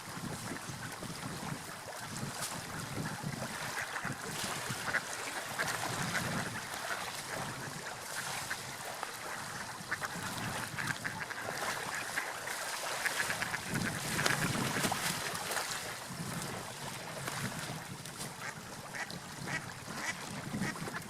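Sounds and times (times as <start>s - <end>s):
sea waves: 0.0s - 21.0s
wind: 0.0s - 21.0s.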